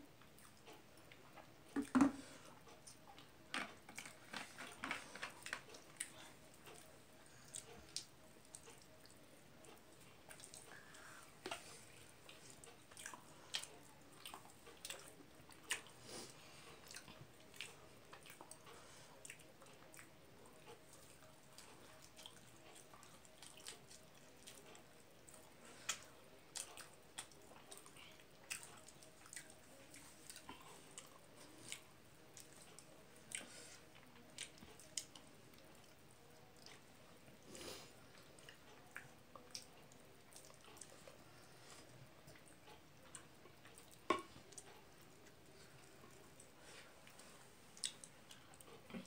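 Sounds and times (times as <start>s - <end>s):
wet chewing and lip smacks: 2.7s - 16.0s, 16.8s - 37.4s, 38.1s - 49.0s.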